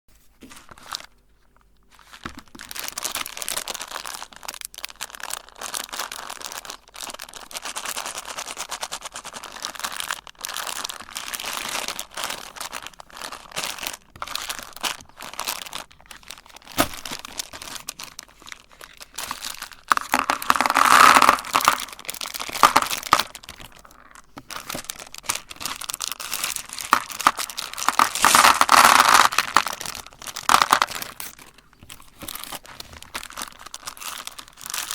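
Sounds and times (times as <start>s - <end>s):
candies crunching in meat grinder: 1.8s - 34.9s.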